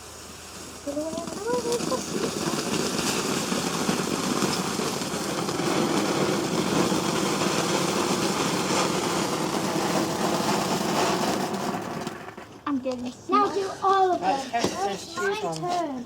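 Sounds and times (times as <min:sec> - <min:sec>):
firework fountain hissing: 0:00.0 - 0:16.0.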